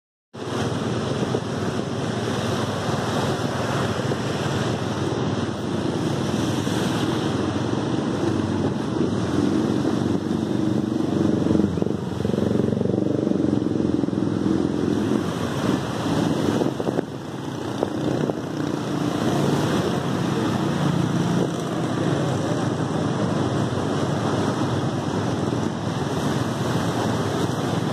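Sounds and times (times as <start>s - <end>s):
tyres swishing through water: 0.4s - 27.9s.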